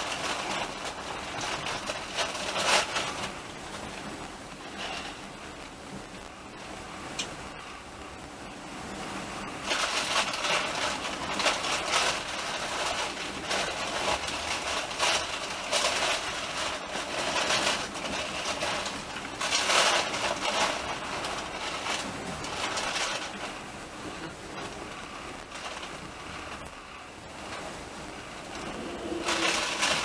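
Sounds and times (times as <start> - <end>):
train wheels on rails rushing: 0.0 - 5.7, 9.1 - 30.0.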